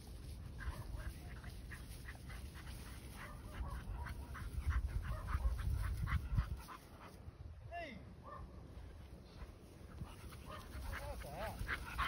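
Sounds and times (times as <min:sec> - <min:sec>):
wind rumbling on microphone: 0:00.0 - 0:07.7, 0:09.5 - 0:12.0.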